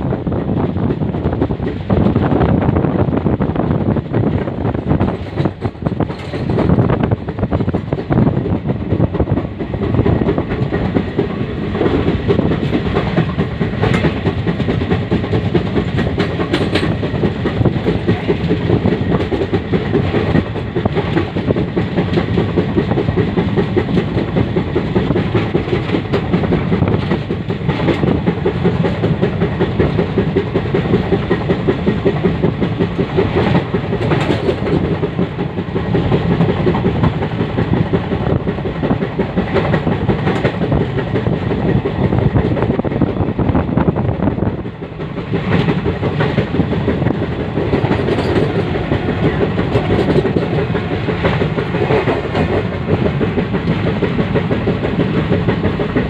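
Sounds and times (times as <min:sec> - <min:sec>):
train wheels rumbling and clattering: 0:00.0 - 0:56.0.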